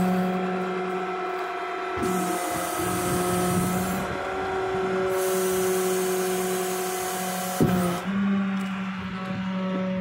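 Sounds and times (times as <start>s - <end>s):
tow truck engine whine: 0.0s - 10.0s.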